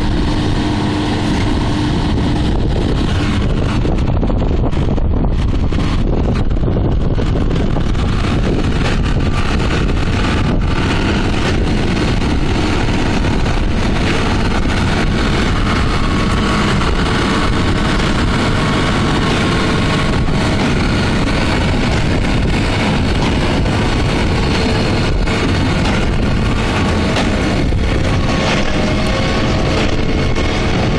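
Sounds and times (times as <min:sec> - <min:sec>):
square baler working: 0:00.0 - 0:30.9
tractor running: 0:00.0 - 0:30.9.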